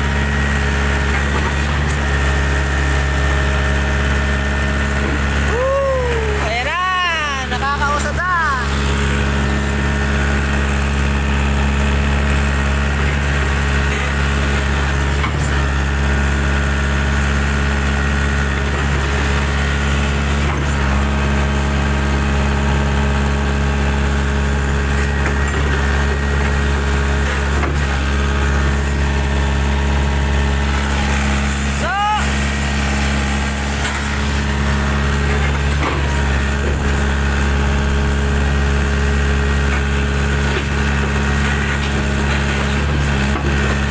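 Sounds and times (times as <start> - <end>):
engine droning steadily: 0.0 - 43.9.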